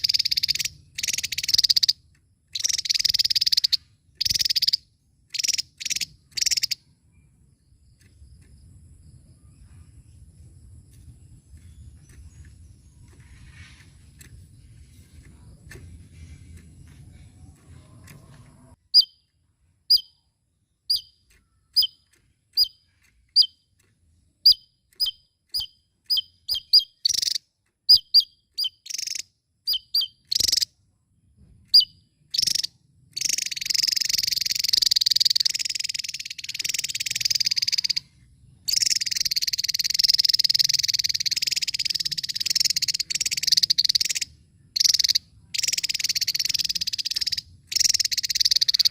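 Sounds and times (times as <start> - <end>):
bird chirping and chattering: 0.0 - 30.8, 31.7 - 48.9.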